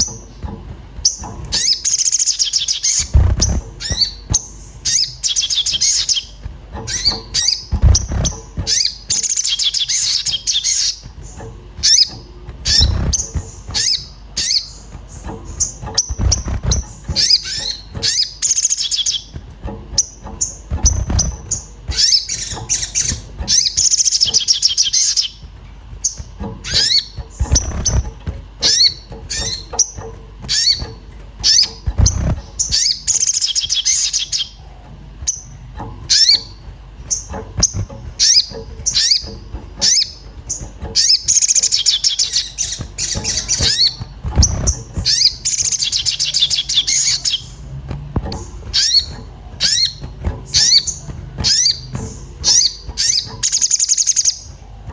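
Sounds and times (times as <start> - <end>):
low thumps: 0.0 - 54.9
bird high chirps: 1.0 - 11.1, 11.8 - 25.4, 26.0 - 34.6, 35.2 - 47.6, 48.6 - 54.6.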